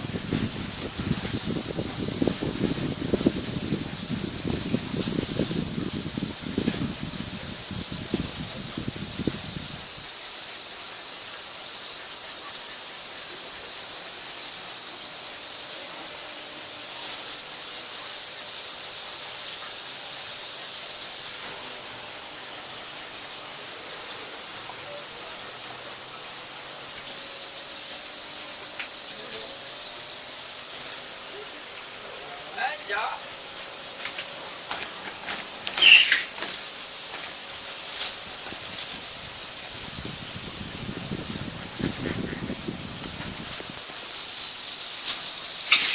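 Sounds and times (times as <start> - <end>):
ceiling fan airy hiss: 0.0 - 45.9.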